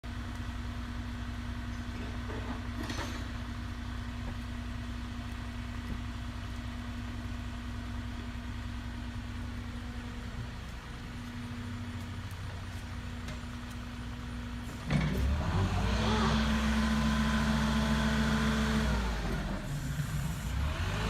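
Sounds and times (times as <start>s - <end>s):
heavy vehicle engine idling: 0.0s - 21.0s.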